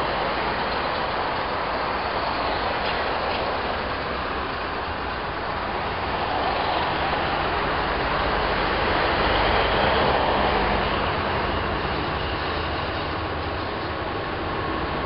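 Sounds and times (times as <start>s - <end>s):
passing road traffic: 0.0s - 15.0s
tram running on tracks: 0.0s - 15.0s.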